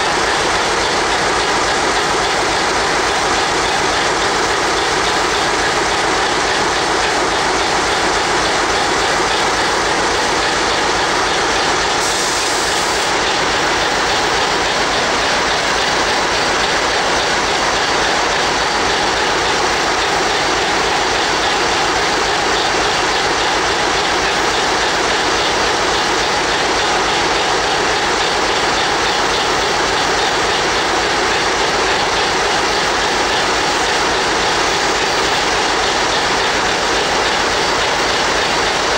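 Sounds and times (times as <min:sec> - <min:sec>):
locomotive engine running: 0:00.0 - 0:38.9.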